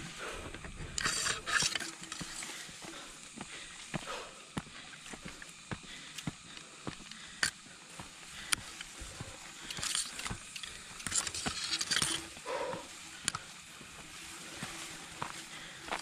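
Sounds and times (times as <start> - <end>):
footsteps on hiking trail: 0.0 - 16.0.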